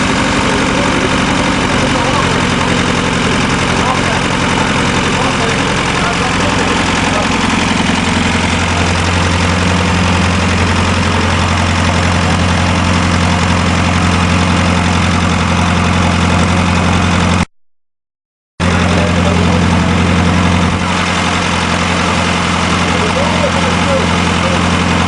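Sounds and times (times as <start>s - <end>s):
diesel engine idling: 0.0s - 17.5s, 18.6s - 25.0s.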